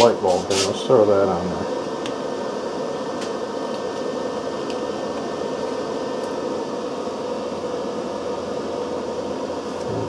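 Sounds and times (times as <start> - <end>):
mechanical hum and whir: 0.0 - 10.0.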